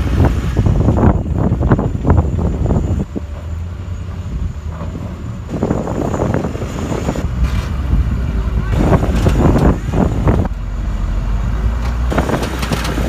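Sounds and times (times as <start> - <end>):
heavy diesel engines rumbling: 0.0 - 13.0.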